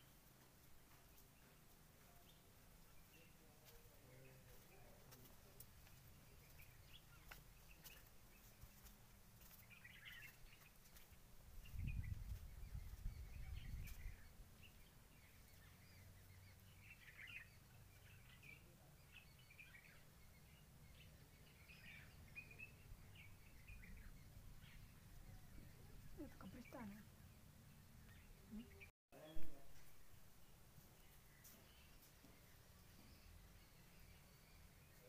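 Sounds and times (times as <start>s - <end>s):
low background noise: 0.0s - 35.0s
faint bird chirps: 0.9s - 35.0s.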